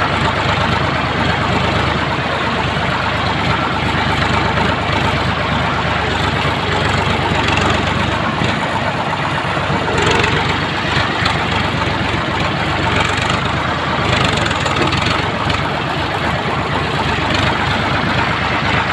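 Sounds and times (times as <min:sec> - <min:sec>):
tractor diesel engine chugging: 0:00.0 - 0:18.9.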